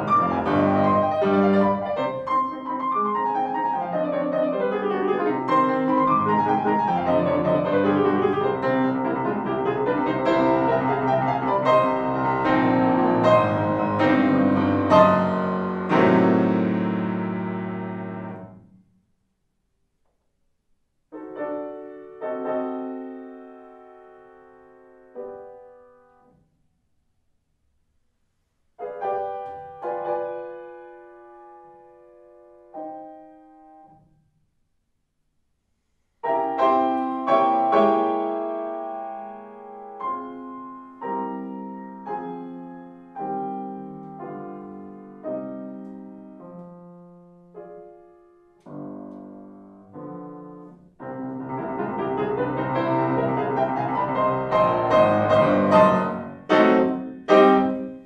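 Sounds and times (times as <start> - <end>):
solo piano classical music: 0.0 - 18.9, 21.0 - 26.5, 28.7 - 34.2, 36.2 - 58.0.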